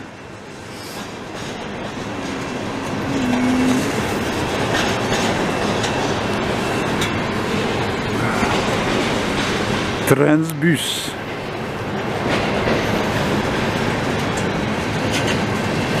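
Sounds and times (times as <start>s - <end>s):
train wheels clattering over rail joints: 0.7s - 10.5s, 11.1s - 16.0s.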